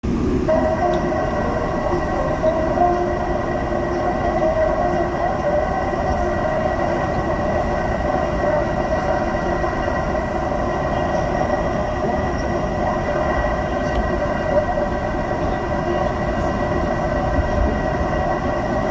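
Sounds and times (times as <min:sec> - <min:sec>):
train rumble: 0:00.0 - 0:18.9
train whine of held tones: 0:00.0 - 0:18.9.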